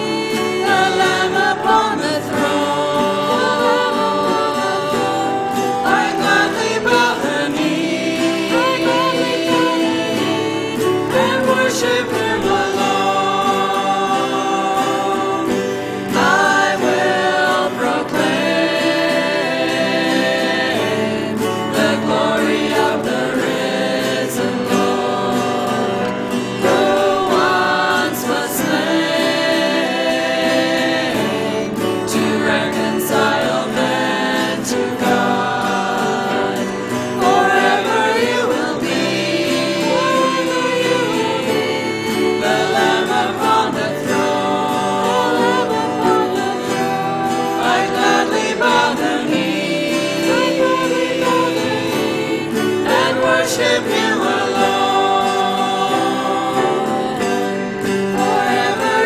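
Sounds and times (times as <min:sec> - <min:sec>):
choir singing worship song: 0:00.0 - 0:59.0.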